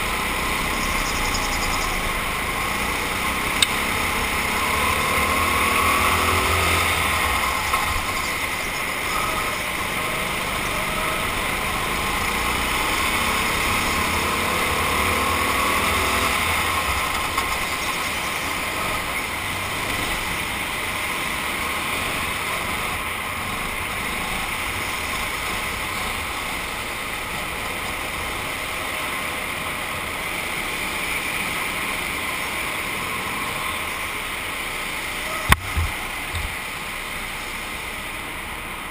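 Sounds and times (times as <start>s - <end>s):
kart engine running: 0.0s - 38.9s.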